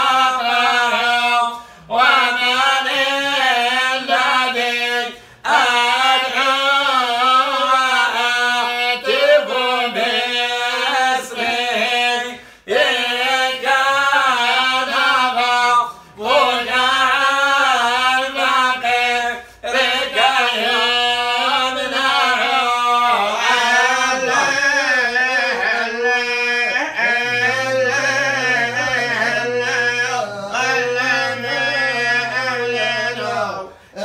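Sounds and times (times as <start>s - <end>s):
man chanting melodically: 0.0s - 34.0s.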